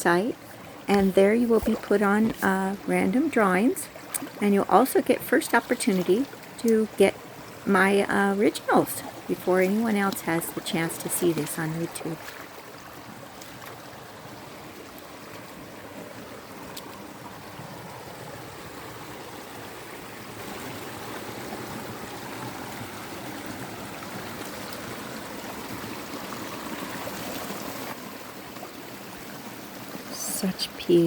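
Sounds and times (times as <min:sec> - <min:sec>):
creek water rushing over rocks: 0:00.0 - 0:31.0.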